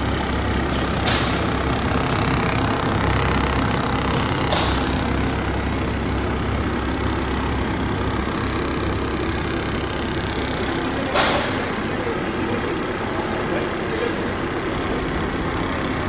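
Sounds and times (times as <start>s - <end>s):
printing press running: 0.0s - 16.0s.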